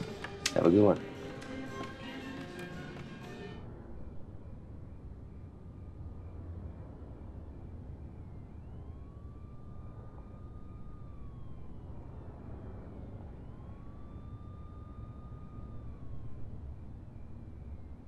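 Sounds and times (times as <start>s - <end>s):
siren wailing: 0.0s - 18.0s
low steady rumble: 3.4s - 18.0s.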